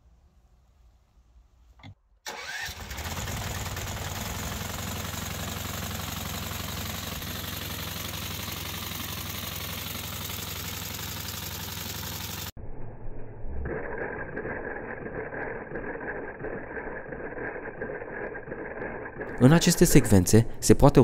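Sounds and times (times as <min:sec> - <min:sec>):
mini tractor engine running: 0:02.3 - 0:12.5, 0:13.7 - 0:20.7.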